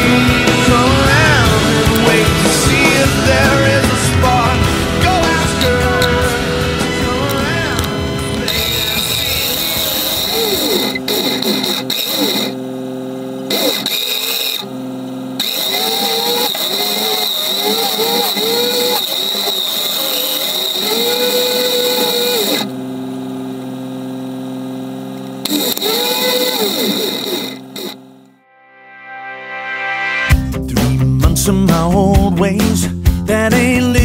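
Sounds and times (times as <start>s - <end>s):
electric winch whining: 0.0s - 28.3s
truck engine revving: 0.0s - 28.3s.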